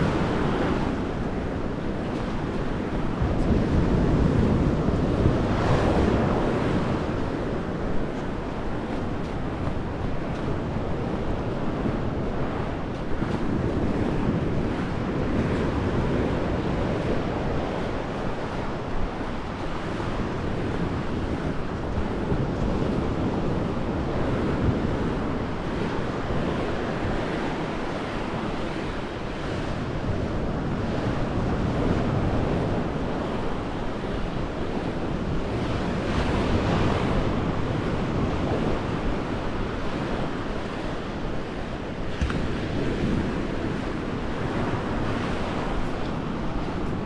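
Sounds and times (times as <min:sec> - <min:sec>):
sea surf washing on shore: 0:00.0 - 0:47.0
wind rumbling on microphone: 0:00.0 - 0:47.0.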